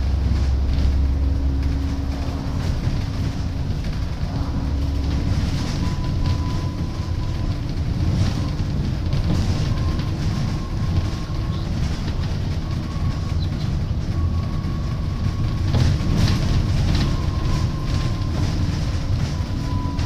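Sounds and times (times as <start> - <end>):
bus body rattling: 0.0 - 20.0
bus engine and road rumble: 0.0 - 20.0
drivetrain whine: 0.0 - 20.0.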